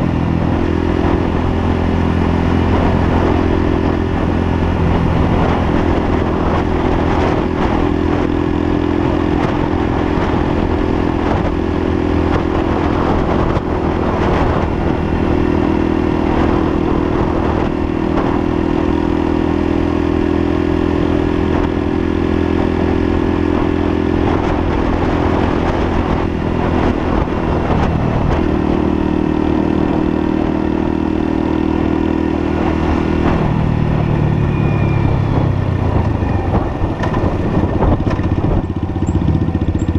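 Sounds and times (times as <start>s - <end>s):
motorbike engine cruising: 0.0s - 39.9s
rush of road noise: 0.0s - 39.9s.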